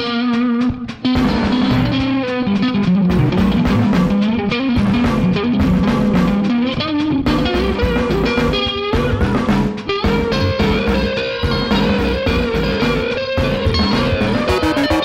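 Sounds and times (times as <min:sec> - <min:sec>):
bass line: 0:00.0 - 0:15.0
electric guitar lead lines: 0:00.0 - 0:15.0.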